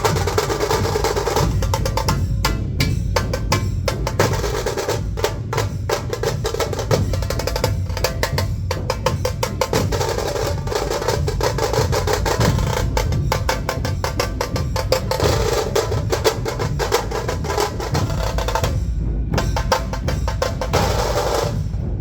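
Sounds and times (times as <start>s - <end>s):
sharp stick strokes on drums: 0.0s - 21.9s
large drums beating low: 0.0s - 22.0s.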